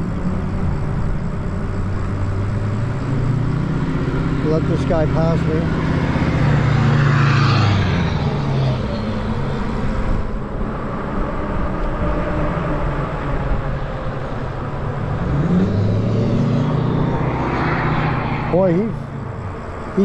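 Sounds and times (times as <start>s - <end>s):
car passing: 0.0s - 20.0s
wind and road noise: 0.0s - 20.0s.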